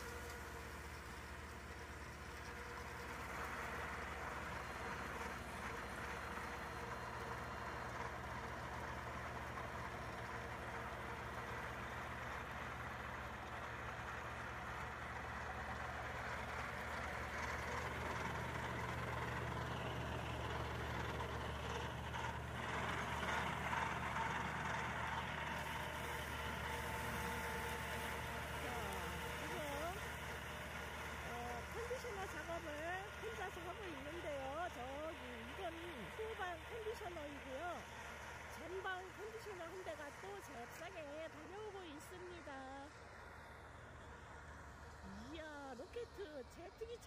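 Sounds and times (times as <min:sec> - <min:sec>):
mower cutter rushing: 0:00.0 - 0:46.7
tractor diesel engine drone: 0:00.0 - 0:47.0.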